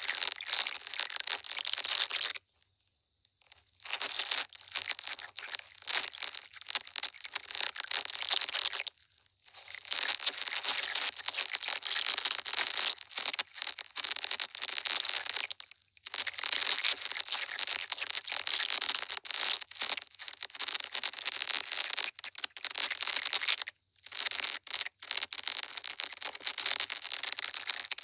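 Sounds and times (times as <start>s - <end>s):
crinkling handling noise: 0.0s - 2.4s, 3.4s - 8.9s, 9.5s - 28.0s.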